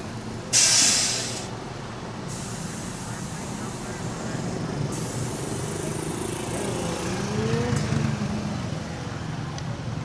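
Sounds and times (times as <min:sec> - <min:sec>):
rumble of running vehicles: 0:00.0 - 0:10.0.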